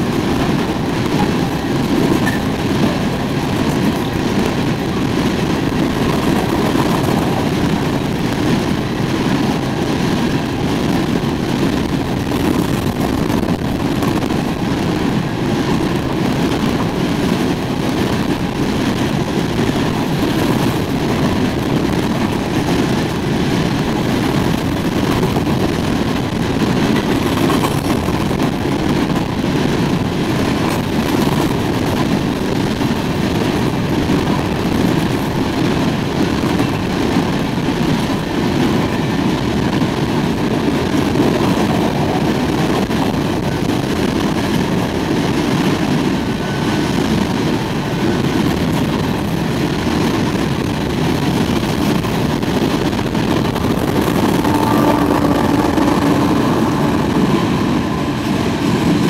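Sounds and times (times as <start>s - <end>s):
steel train wheels rumbling on rails: 0.0s - 59.0s.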